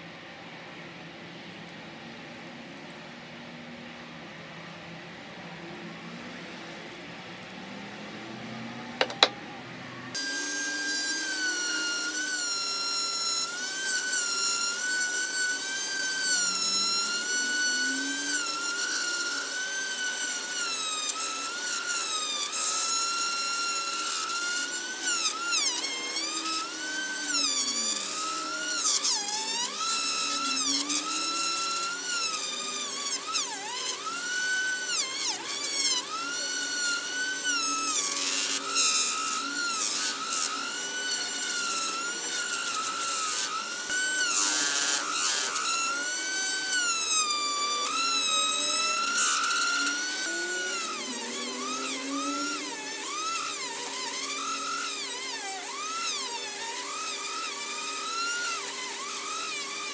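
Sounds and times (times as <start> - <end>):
rotary tool sanding metal: 9.0 - 9.4, 10.1 - 59.9.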